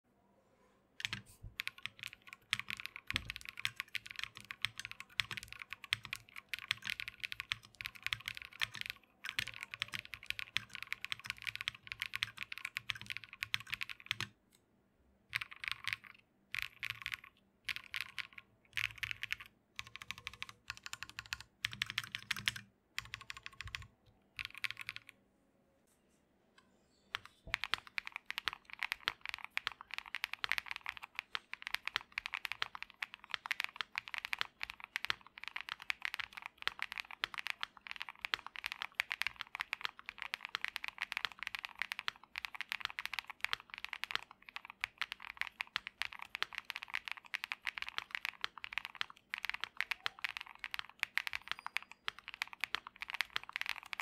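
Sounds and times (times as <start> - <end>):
mechanical keyboard typing: 1.0 - 14.4, 15.3 - 25.1, 27.1 - 54.0.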